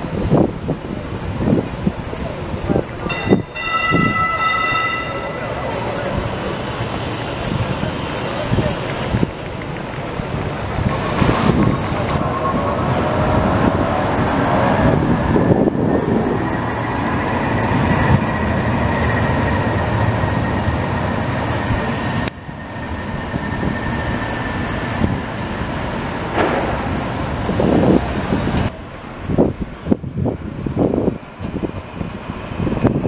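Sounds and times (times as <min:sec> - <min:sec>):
tram wheels rumbling on rails: 0:00.0 - 0:33.0
tram whine gliding in pitch: 0:00.1 - 0:29.5.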